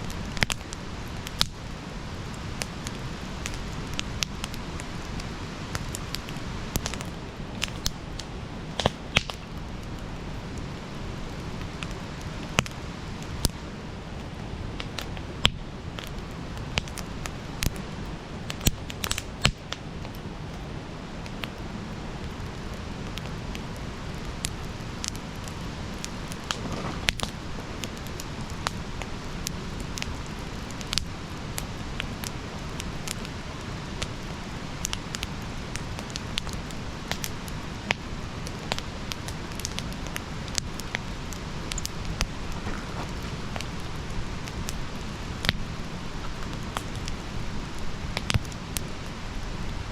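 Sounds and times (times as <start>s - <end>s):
wood fire crackling and popping: 0.0s - 49.9s.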